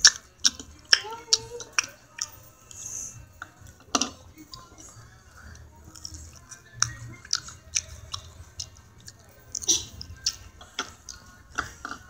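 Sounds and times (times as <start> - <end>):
chewing with wet mouth smacks: 0.0 - 12.0.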